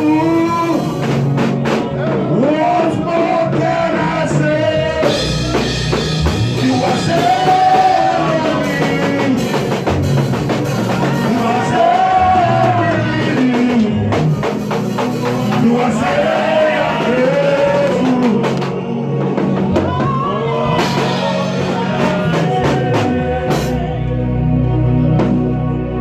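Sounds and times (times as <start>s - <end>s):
band with drums and guitar: 0.0s - 26.0s
person singing: 0.0s - 26.0s.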